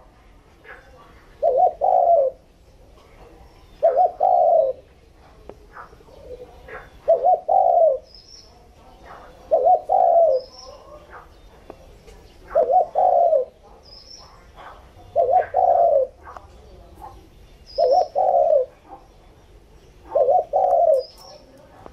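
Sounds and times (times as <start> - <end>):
dove cooing: 0.0 - 21.9.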